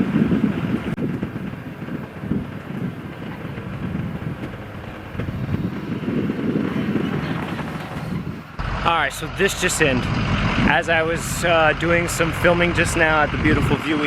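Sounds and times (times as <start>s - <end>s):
vehicle road and engine noise: 0.0s - 14.0s.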